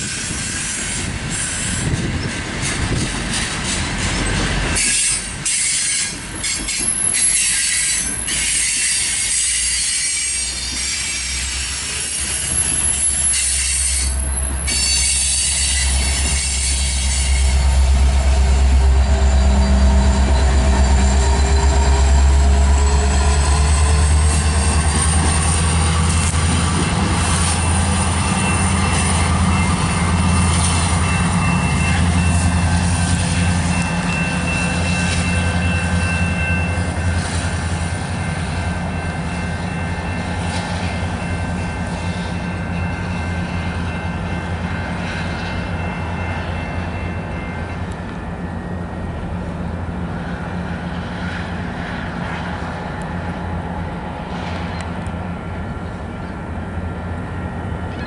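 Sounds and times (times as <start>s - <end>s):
diesel locomotive engine drone: 0.0s - 58.0s
train wheels squealing on rails: 0.0s - 58.0s.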